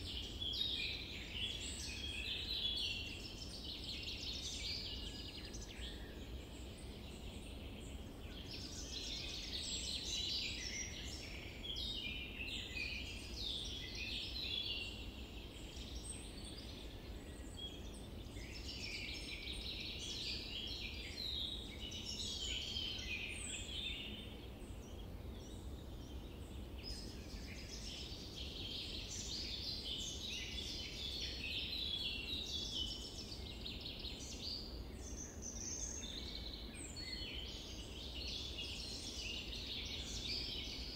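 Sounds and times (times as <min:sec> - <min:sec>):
low background noise: 0:00.0 - 0:40.9
small birds chirping and twittering: 0:00.0 - 0:40.9.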